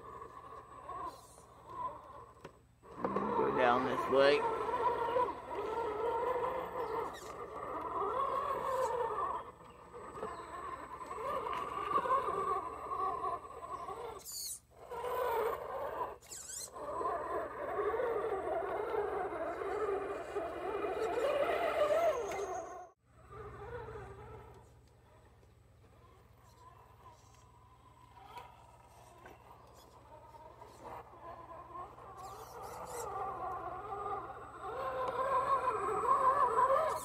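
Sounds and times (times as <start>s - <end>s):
electric motor and gears whining: 0.0s - 37.0s.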